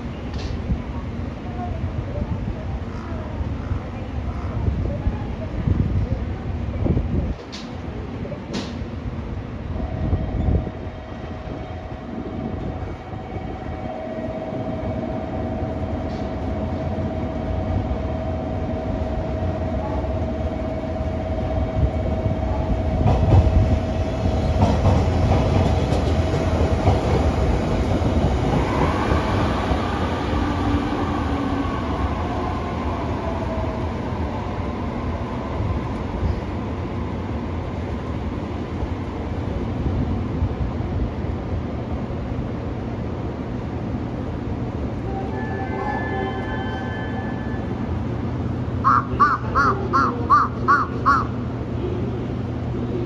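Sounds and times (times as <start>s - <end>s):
train wheels rumbling over rails: 0.0s - 45.7s.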